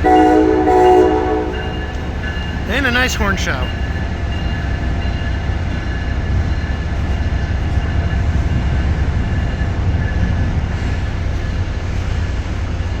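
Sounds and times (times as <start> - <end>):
train running with low rumble: 0.0 - 13.0.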